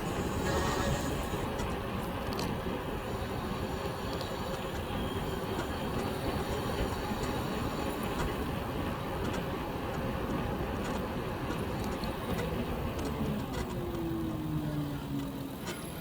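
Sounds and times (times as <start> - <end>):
tyres rolling on road: 0.0 - 16.0.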